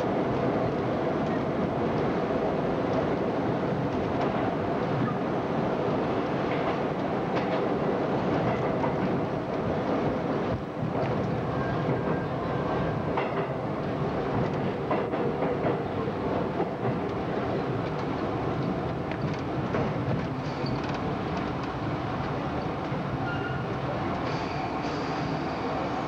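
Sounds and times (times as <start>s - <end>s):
subway car rumble and rattle: 0.0s - 26.0s.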